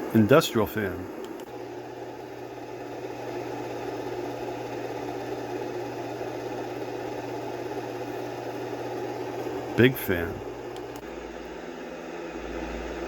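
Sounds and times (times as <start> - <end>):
constant hum: 0.0 - 13.0
fan rumble: 0.0 - 13.0.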